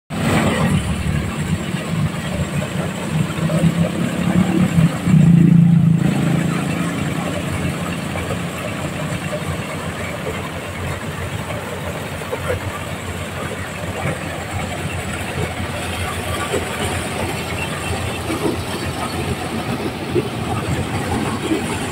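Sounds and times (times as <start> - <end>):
corn sheller engine running: 0.1 - 21.9.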